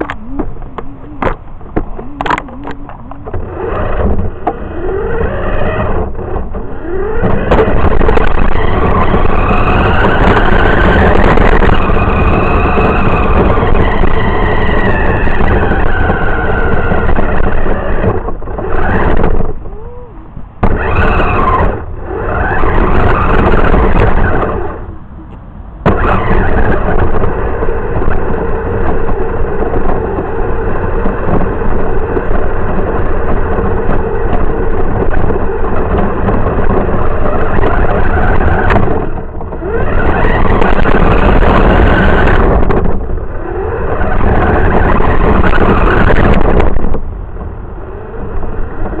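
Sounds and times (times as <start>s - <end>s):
toy car motor whine: 0.0s - 25.0s, 25.9s - 46.8s
wheel and ground noise: 0.0s - 49.0s.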